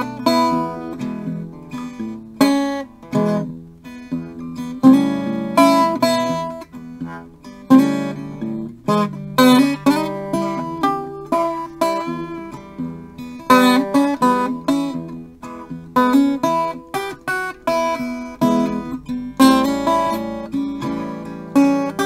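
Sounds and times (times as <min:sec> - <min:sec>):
fingerstyle acoustic guitar: 0:00.0 - 0:22.0.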